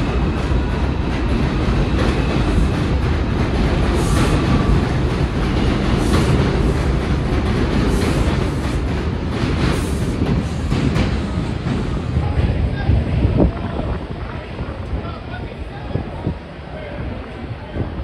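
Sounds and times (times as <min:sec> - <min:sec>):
wheels clacking on rails: 0:00.0 - 0:15.2
subway train rumbling on rails: 0:00.0 - 0:18.0.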